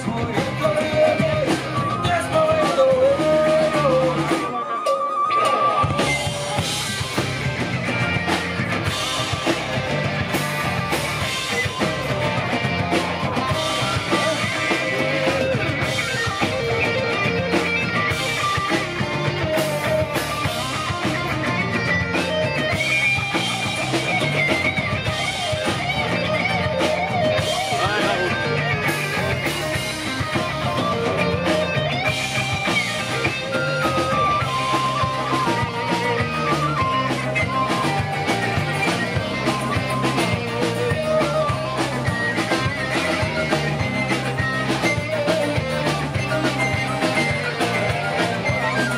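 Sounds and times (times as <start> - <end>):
live rock band playing: 0.0 - 48.9
wavering lead melody: 0.0 - 48.9.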